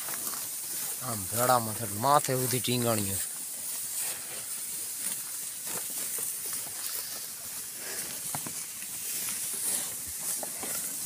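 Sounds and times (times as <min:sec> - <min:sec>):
hooves crunching dry grass: 0:00.0 - 0:11.0.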